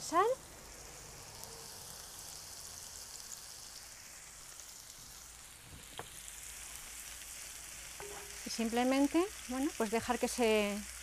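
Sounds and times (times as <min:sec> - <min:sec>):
onion sizzling in frying pan: 0:00.0 - 0:11.0.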